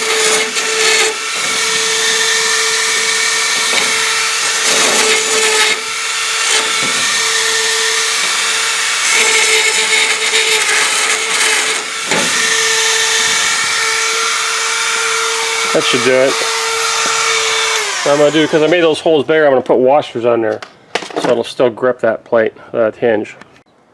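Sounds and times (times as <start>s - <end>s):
rotary tool grinding metal: 0.0s - 19.4s.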